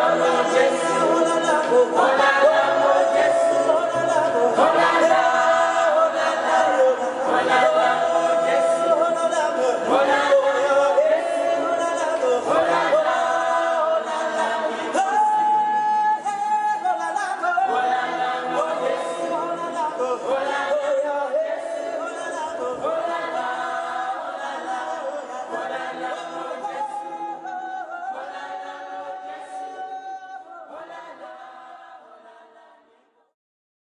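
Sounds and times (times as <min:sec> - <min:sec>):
choir singing in harmony: 0:00.0 - 0:33.3.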